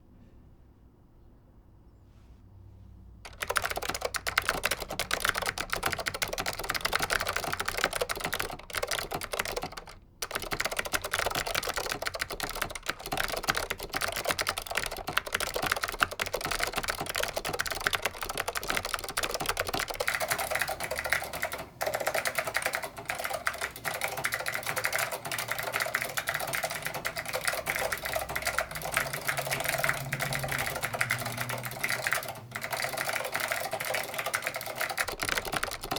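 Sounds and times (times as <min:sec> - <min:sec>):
fast typing on clicky keyboard: 0:03.3 - 0:35.9.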